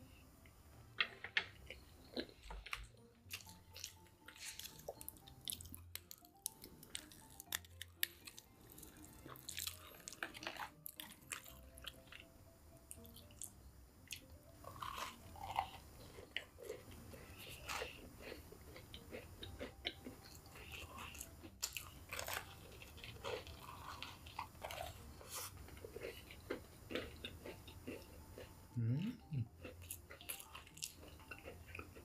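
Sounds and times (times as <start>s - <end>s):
crunchy chewing of fried chicken: 1.6s - 12.3s, 14.1s - 28.6s, 29.5s - 32.0s.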